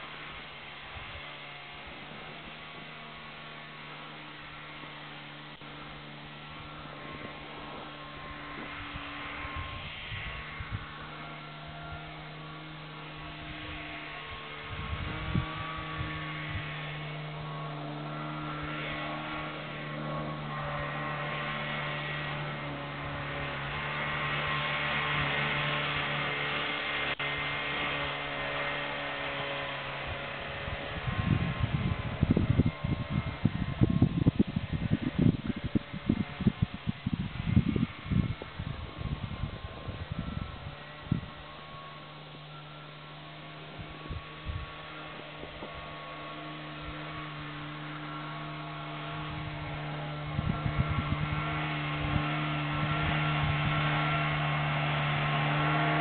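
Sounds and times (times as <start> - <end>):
distant snowmobile engine hum: 0.0 - 56.0.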